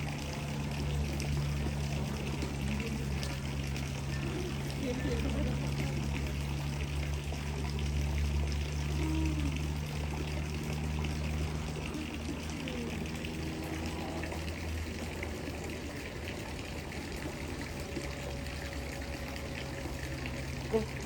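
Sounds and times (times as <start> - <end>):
low hum: 0.0 - 21.0
water trickling and pouring: 0.0 - 21.0.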